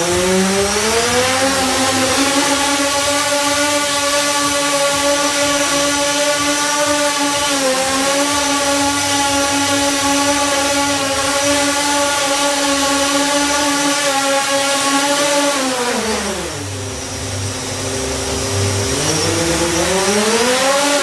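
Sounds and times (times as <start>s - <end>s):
multicopter motors whining: 0.0s - 21.0s.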